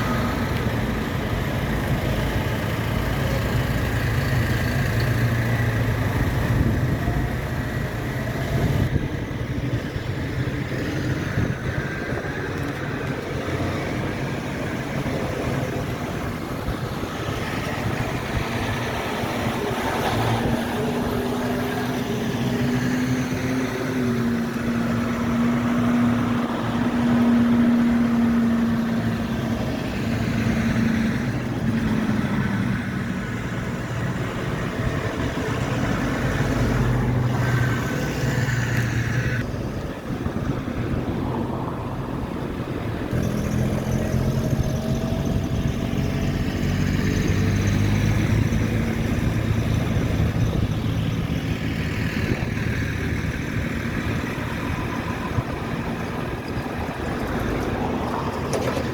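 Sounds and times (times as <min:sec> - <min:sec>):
vehicle engines passing: 0:00.0 - 0:58.9.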